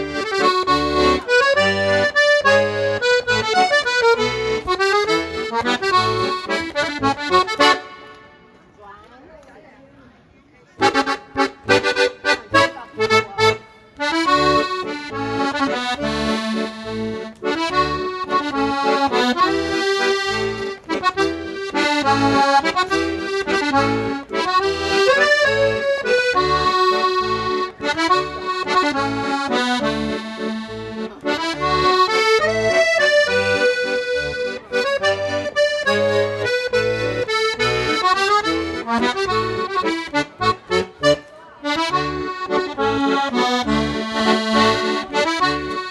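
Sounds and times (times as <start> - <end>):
accordion music: 0.0 - 8.6, 10.8 - 45.9.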